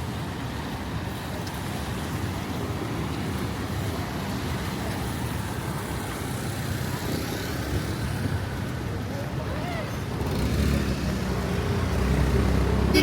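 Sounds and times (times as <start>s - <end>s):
cars passing: 0.0s - 13.0s
city street traffic: 0.0s - 13.0s.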